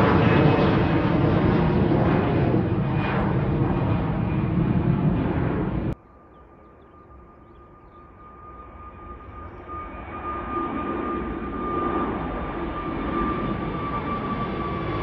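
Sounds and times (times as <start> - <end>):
aircraft engines whining: 0.0 - 15.0
airliner engine noise: 0.0 - 15.0.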